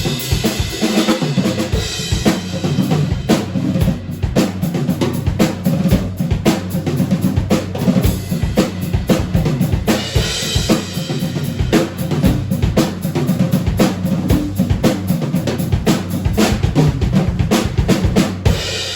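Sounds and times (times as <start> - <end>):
fast snare and bass drum: 0.0 - 18.9.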